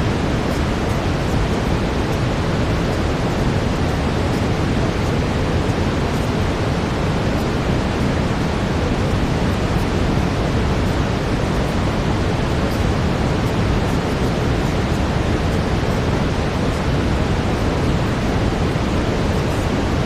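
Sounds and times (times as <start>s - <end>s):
brown noise hiss: 0.0s - 20.0s.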